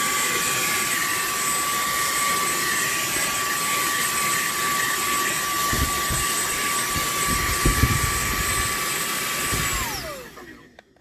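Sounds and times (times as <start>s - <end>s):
handheld vacuum cleaner running: 0.0s - 11.0s.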